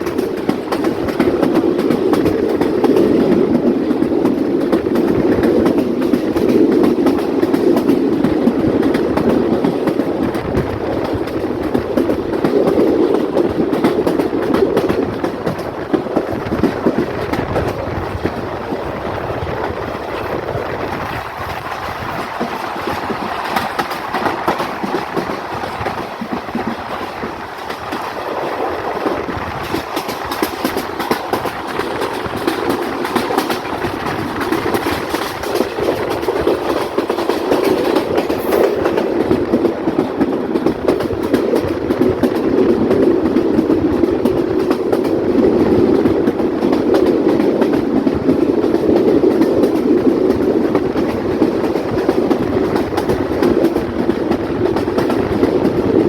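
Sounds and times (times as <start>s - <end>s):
train running rumble: 0.0s - 56.0s
train wheels clattering on rails: 0.0s - 56.0s.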